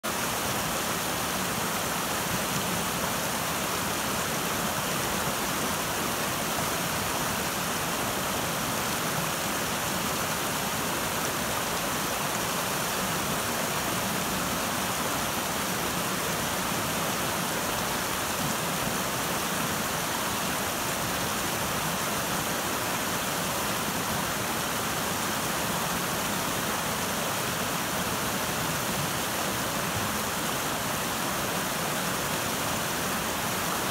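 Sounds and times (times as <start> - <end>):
river water rushing over rocks: 0.1 - 33.9.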